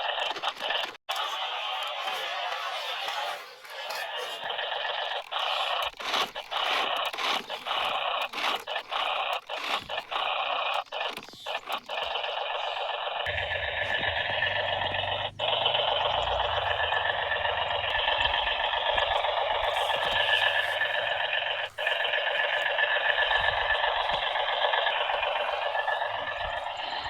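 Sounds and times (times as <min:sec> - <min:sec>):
toy gear motors whirring: 0:00.0 - 0:27.0.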